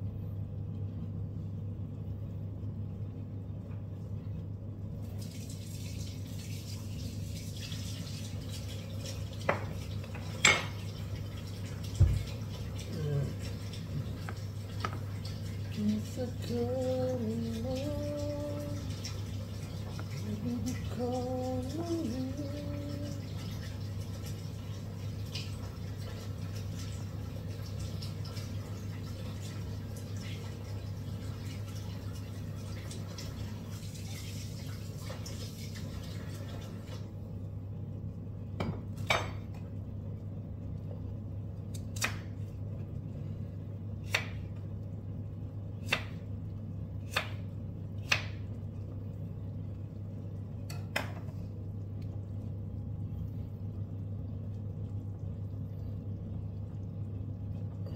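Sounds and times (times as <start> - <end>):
low hum with hiss: 0.0 - 57.9.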